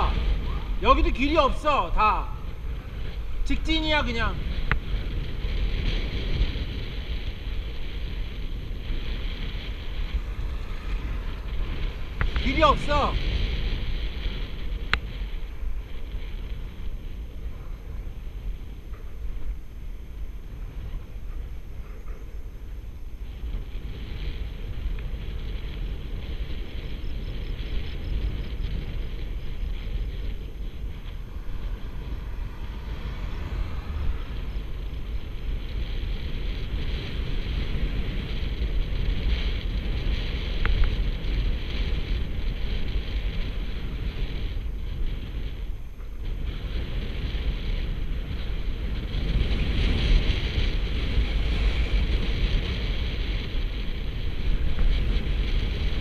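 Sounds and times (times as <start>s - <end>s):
tyres rumbling on asphalt: 0.0s - 56.0s
wind buffeting microphone: 0.0s - 56.0s.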